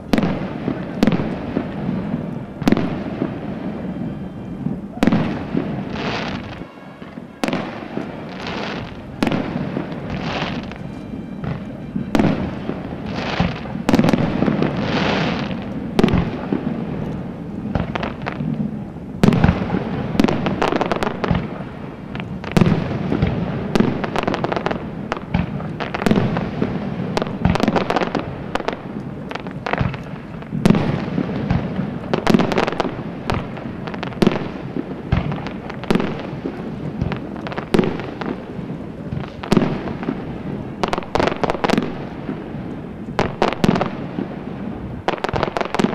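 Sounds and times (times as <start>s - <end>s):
fireworks bangs and pops: 0.0s - 45.9s
fireworks hissing and crackling: 0.0s - 45.9s.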